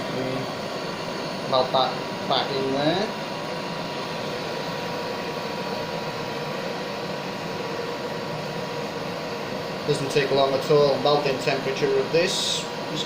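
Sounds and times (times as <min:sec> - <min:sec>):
burner rushing hiss: 0:00.0 - 0:13.0.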